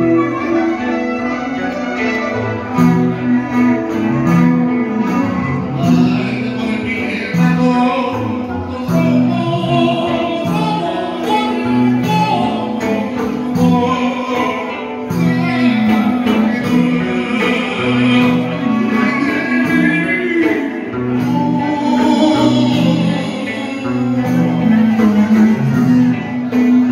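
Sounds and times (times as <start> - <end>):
electric guitar: 0.0 - 26.9
keyboard: 0.0 - 26.9
person singing: 0.0 - 26.9.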